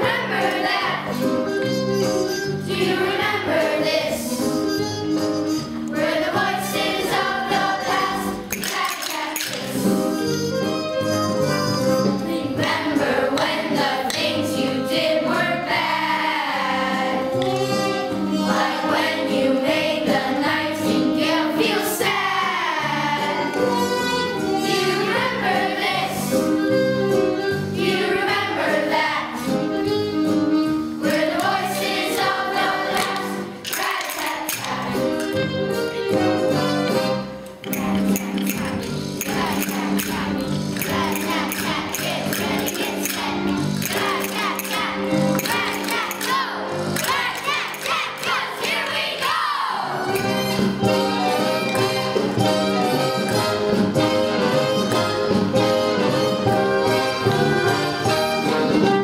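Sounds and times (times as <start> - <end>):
children's choir singing: 0.0 - 1.5, 2.6 - 4.5, 5.9 - 10.4, 12.1 - 26.4, 27.7 - 29.6, 31.0 - 35.5, 36.3 - 59.0
backing music: 0.0 - 59.0.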